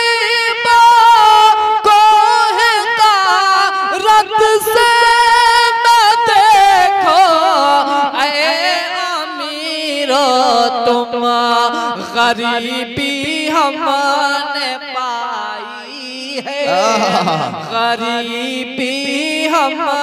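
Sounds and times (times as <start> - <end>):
man singing through a microphone: 0.0 - 20.0.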